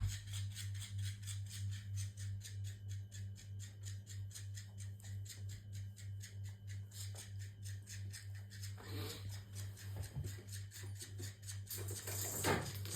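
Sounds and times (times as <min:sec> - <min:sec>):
toy motor humming and rattling: 0:00.0 - 0:12.9.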